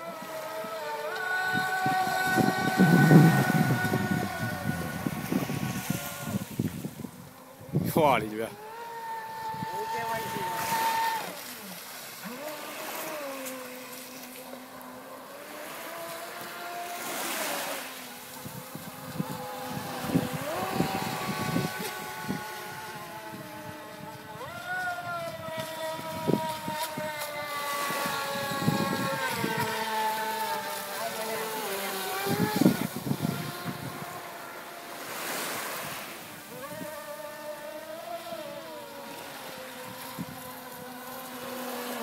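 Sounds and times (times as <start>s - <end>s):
model speedboat engines whining: 0.0s - 42.0s.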